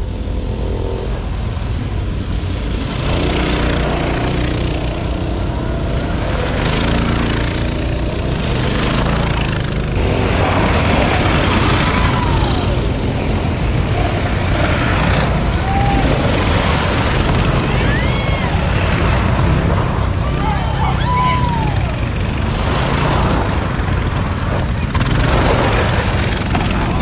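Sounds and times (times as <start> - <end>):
mini bike engines revving: 0.0 - 27.0.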